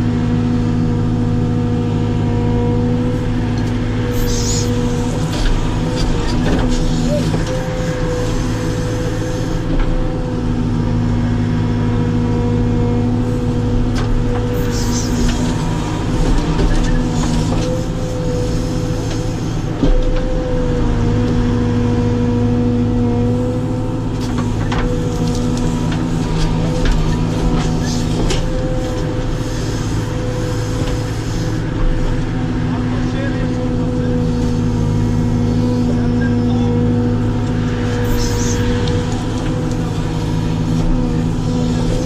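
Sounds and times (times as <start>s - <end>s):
diesel engine running: 0.0s - 42.0s
hydraulic whine: 2.2s - 11.1s, 12.0s - 42.0s.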